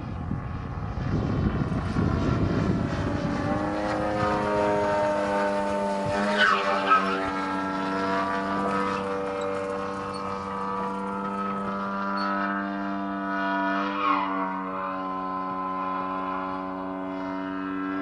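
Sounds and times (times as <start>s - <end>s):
model plane engine in flight: 0.0s - 18.0s.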